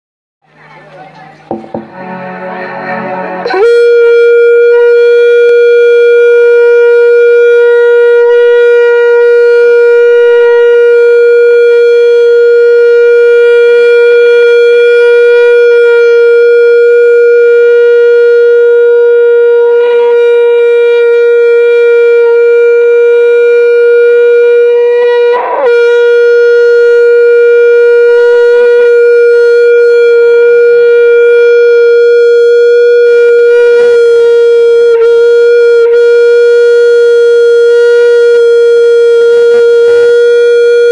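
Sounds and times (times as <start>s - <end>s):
microphone feedback howl: 3.4s - 40.9s.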